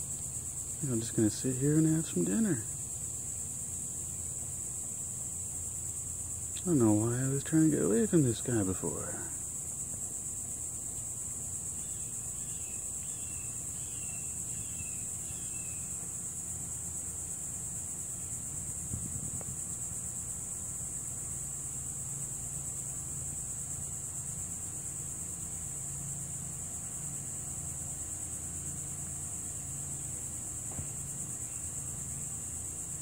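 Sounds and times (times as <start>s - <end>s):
crickets trilling: 0.0s - 33.0s
faint insect chirps: 0.0s - 33.0s.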